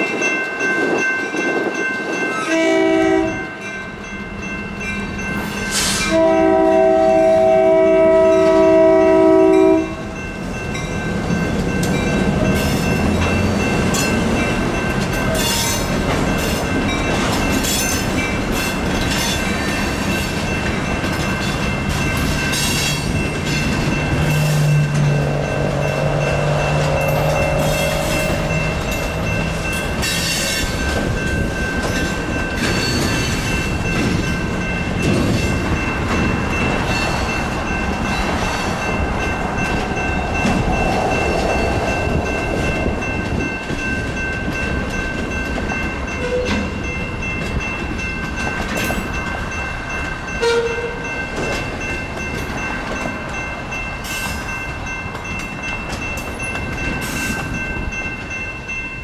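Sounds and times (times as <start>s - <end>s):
electronic crossing bell ringing: 0.0s - 59.0s
train wheels clacking: 10.4s - 59.0s.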